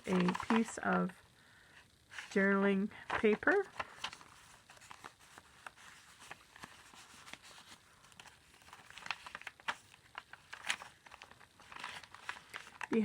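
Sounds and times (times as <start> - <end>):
paper rustling: 0.0 - 1.1, 2.1 - 13.0.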